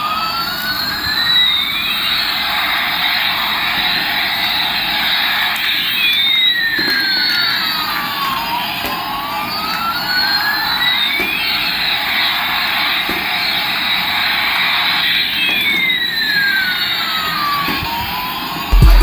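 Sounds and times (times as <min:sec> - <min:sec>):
toy jet engine roar: 0:00.0 - 0:18.7.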